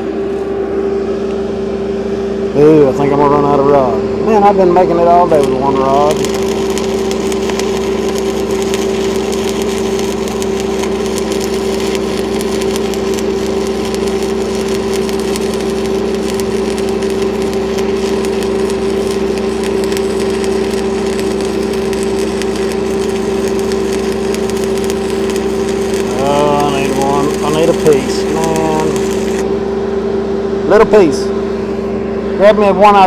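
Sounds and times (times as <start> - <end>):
engine hum: 0.0 - 33.0
welding arc crackling: 2.8 - 29.6.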